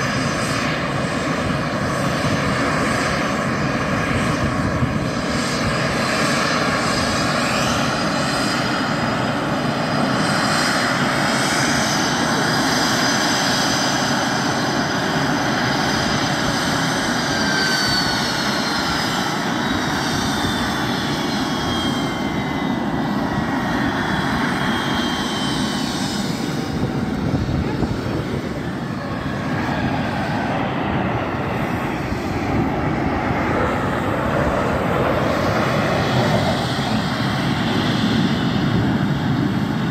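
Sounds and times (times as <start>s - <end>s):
jet engine high whines: 0.0s - 39.9s
jet engine rushing: 0.0s - 39.9s.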